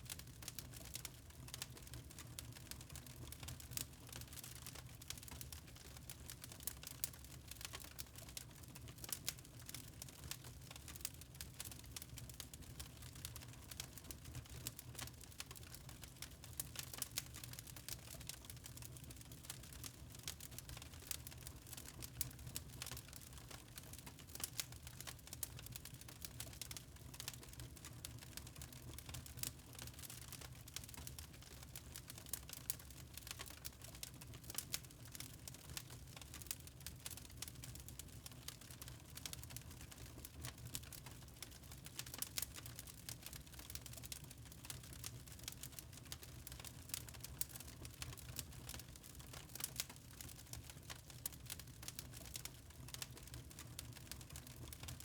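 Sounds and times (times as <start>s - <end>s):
fire crackling: 0.1s - 55.0s.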